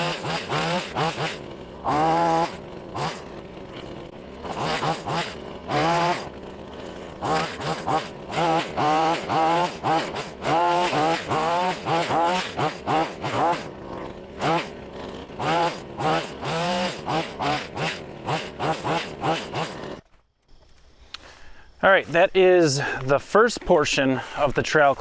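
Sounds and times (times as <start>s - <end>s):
hedge trimmer engine revving: 0.0s - 20.1s.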